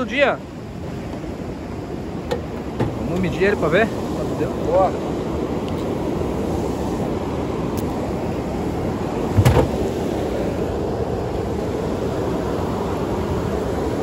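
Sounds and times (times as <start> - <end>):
river rapids rushing: 0.0 - 14.0.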